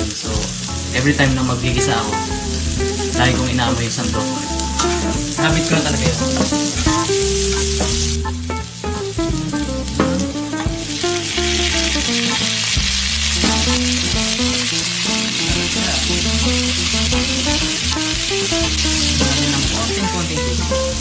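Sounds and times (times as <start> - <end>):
background music: 0.0 - 21.0
meat sizzling in a wok: 0.0 - 21.0.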